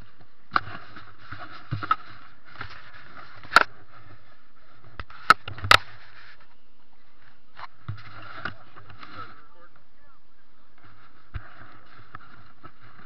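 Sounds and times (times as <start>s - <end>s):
rubbing and scraping on snow: 0.0s - 13.0s.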